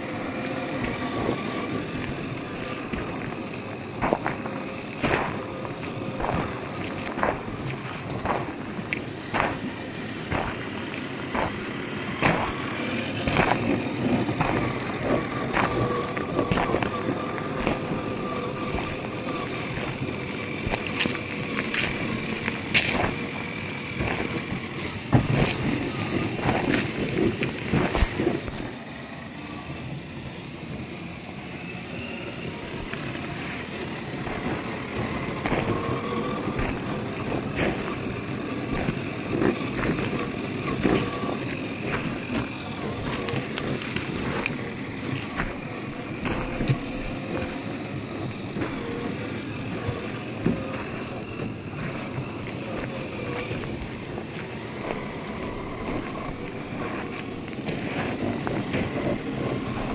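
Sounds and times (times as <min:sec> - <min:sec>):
tyres crunching on gravel: 0:00.0 - 0:29.4, 0:31.8 - 0:59.9
electric motor whine: 0:00.0 - 0:59.9.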